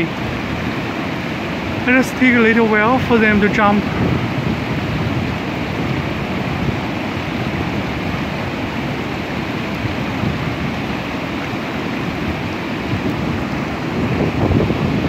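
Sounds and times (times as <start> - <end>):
water rushing over a dam: 0.0 - 15.0.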